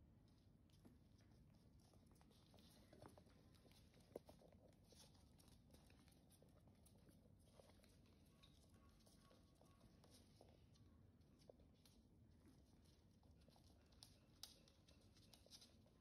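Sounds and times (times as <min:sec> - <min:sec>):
puppy paws tapping on wooden floor: 0:00.7 - 0:16.0.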